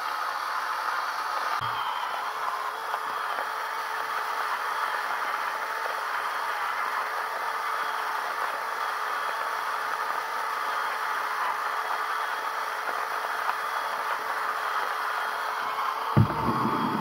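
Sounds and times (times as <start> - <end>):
coffee grinder motor hum: 0.0 - 17.0.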